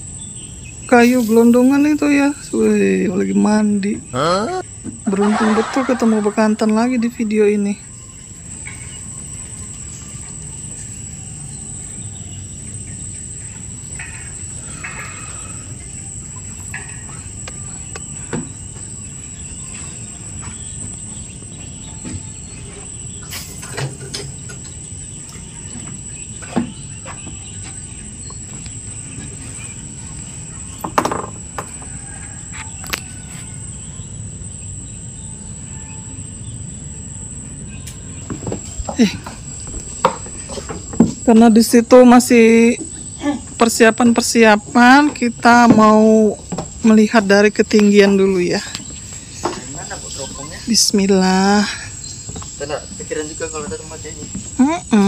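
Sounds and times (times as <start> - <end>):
high-pitched insect drone: 0.0 - 55.0
low background hum: 0.0 - 55.0.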